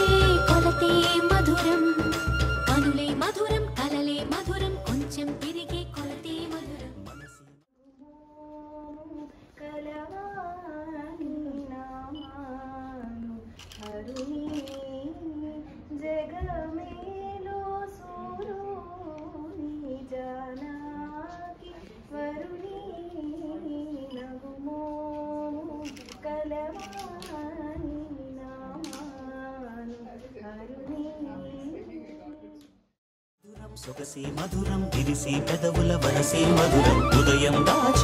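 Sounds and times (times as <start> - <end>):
woman singing unaccompanied: 0.0 - 7.2, 7.9 - 32.2, 33.5 - 38.0.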